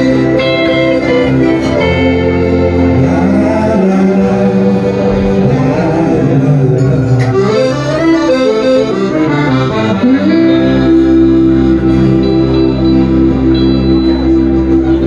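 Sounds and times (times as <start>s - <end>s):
piano accordion melody: 0.0s - 15.0s
strummed guitars: 0.0s - 15.0s.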